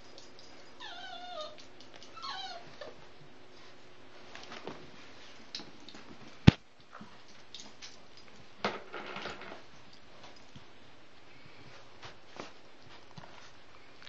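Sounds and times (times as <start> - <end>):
puppy scuffling and chewing: 0.0 - 8.6, 9.6 - 14.0.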